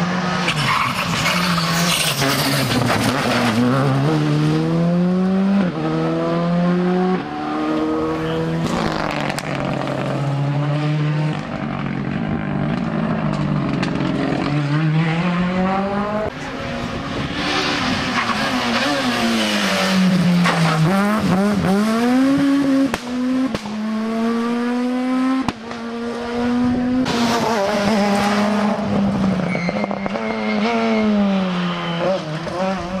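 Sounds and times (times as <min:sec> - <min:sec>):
rally car engines revving: 0:00.0 - 0:33.0.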